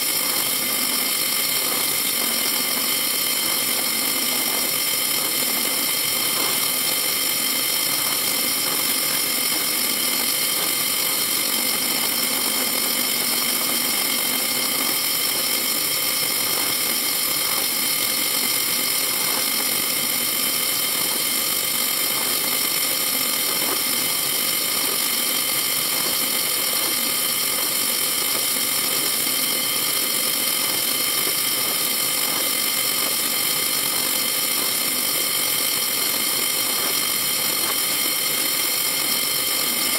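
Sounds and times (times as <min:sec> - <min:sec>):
drill press humming: 0:00.0 - 0:39.9.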